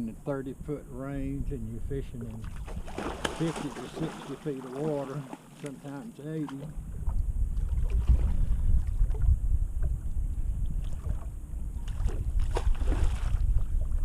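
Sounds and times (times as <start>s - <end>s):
wind buffeting microphone: 0.0s - 5.3s, 6.3s - 14.0s.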